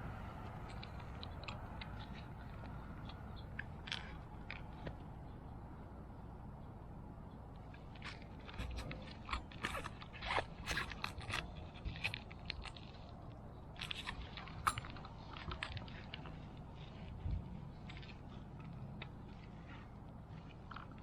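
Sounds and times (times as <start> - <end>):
small parts clicking and scraping: 0.4 - 5.0, 7.6 - 21.0.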